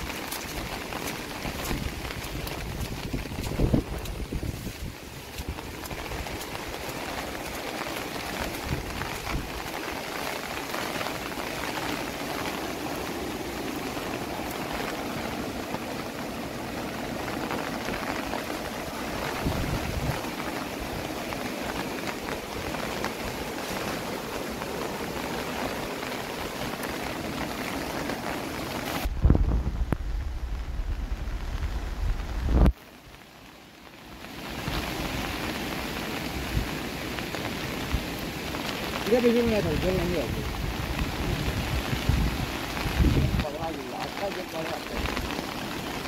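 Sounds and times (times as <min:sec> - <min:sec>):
rushing splashing water: 0:00.0 - 0:46.0.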